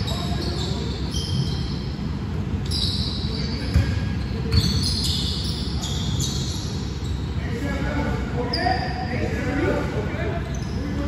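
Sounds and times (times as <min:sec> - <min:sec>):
sneakers squeaking on floor: 0:00.0 - 0:07.7, 0:08.4 - 0:09.2, 0:10.4 - 0:11.0.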